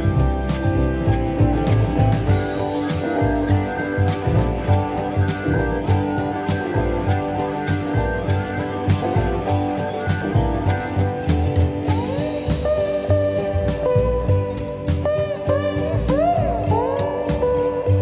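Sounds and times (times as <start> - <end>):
guitar music: 0.0 - 18.0
sliding guitar notes: 0.0 - 18.0
steady drum beat: 0.0 - 18.0.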